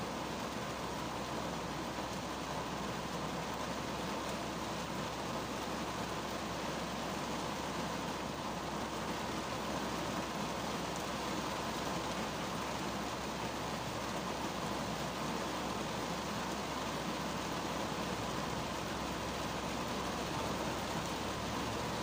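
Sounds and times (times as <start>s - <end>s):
rain on car roof: 0.0s - 22.0s.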